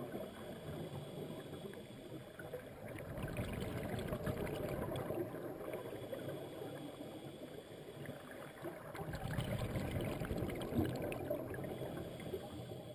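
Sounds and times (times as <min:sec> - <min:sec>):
muffled underwater noise: 0:00.0 - 0:12.9.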